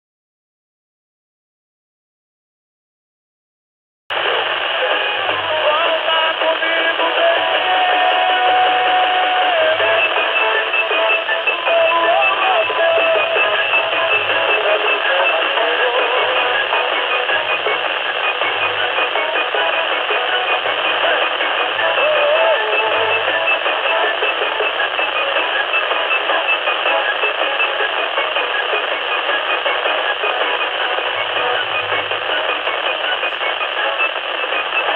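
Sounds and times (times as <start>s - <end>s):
radio static rush: 4.1s - 34.9s.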